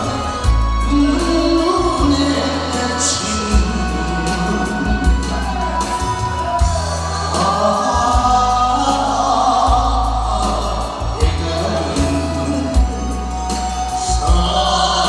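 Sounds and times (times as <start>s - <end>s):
backing track with heavy bass beat: 0.0s - 15.0s
people singing into microphones: 0.0s - 15.0s.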